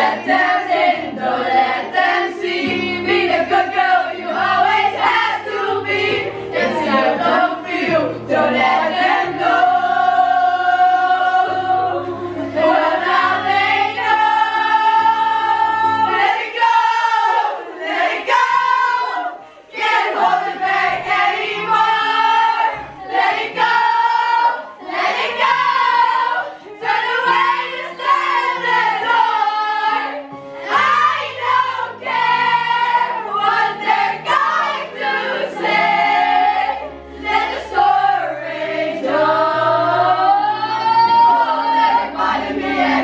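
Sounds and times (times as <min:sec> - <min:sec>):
backing music: 0:00.0 - 0:43.0
girls singing together: 0:00.0 - 0:43.0.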